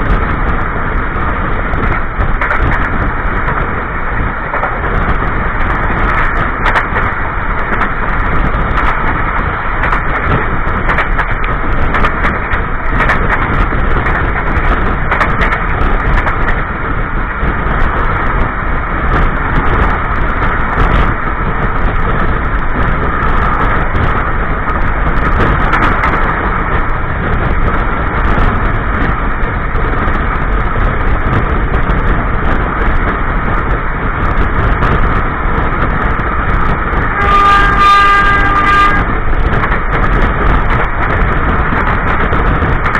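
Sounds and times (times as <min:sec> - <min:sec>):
sharp clicks and rattles: 0:00.0 - 0:42.9
train wheels running on rails: 0:00.0 - 0:42.9.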